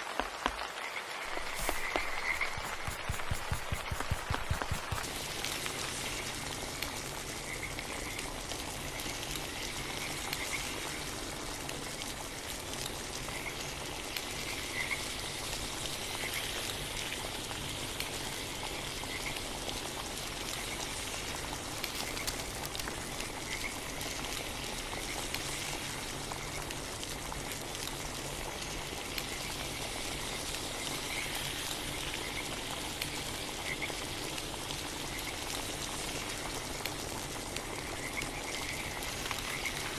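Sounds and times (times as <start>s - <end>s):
steady hiss with crackle: 0.0s - 39.9s
frogs croaking: 0.6s - 12.4s, 13.0s - 17.2s, 18.2s - 27.3s, 28.7s - 36.8s, 37.4s - 39.9s.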